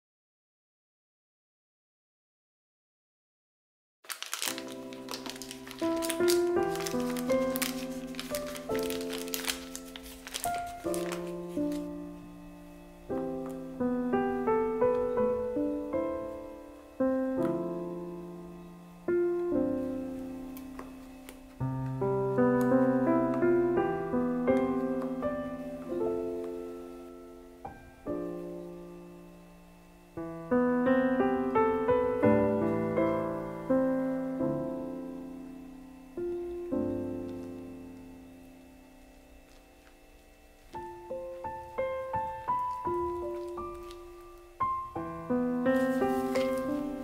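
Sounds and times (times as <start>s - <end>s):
piano music: 4.1s - 47.0s.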